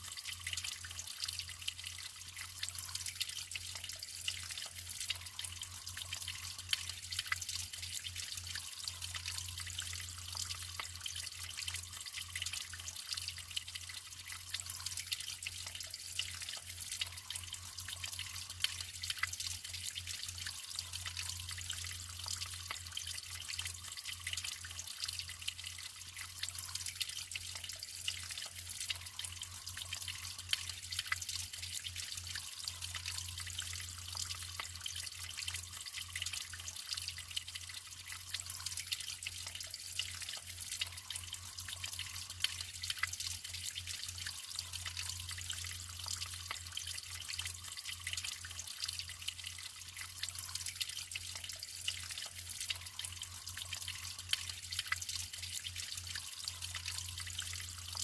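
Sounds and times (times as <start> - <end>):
water drips and plops: 0.0 - 58.0
water trickling and splashing: 0.0 - 58.0.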